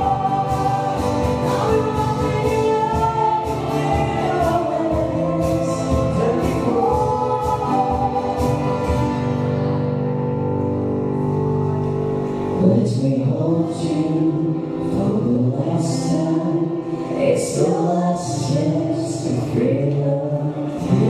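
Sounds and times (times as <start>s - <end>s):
people singing: 0.0s - 9.0s, 12.6s - 21.0s
acoustic band playing: 0.0s - 21.0s.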